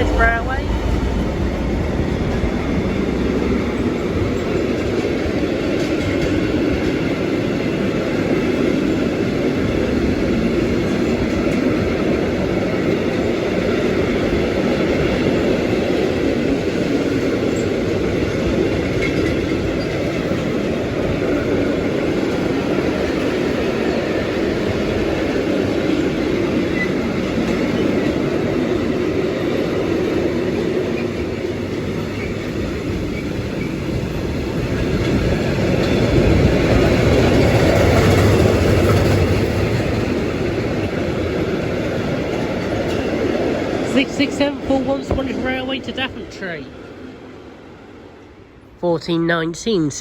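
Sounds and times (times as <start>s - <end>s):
train wagons rolling on rails: 0.0s - 48.7s
diesel locomotive passing: 0.0s - 50.0s.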